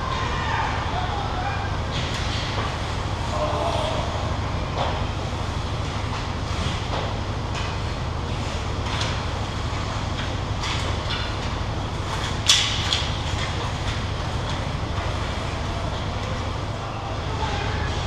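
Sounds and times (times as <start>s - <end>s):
low rumble in rink: 0.0s - 18.0s.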